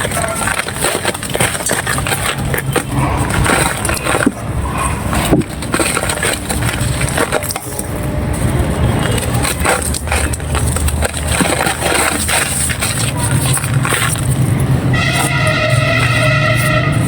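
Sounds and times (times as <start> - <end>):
dry sand crumbling with crunches: 0.0 - 16.9.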